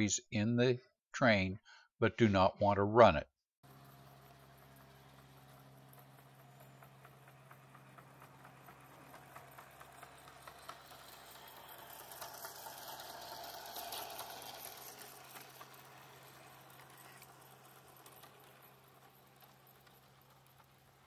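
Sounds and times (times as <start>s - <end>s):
model train motor running: 3.6s - 21.0s
wheels clicking over rail joints: 3.7s - 21.0s.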